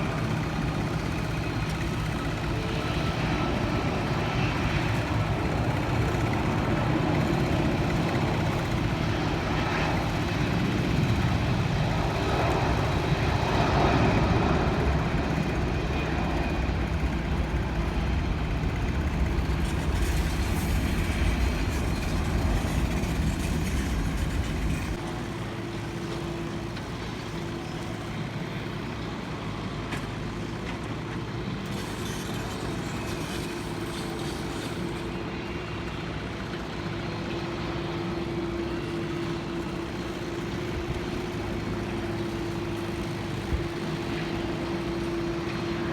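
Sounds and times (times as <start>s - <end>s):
engine rumble: 0.0s - 45.9s.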